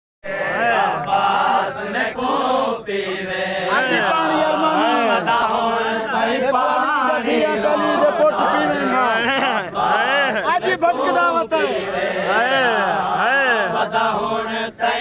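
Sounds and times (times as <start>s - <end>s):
men chanting a lament: 0.2s - 15.0s.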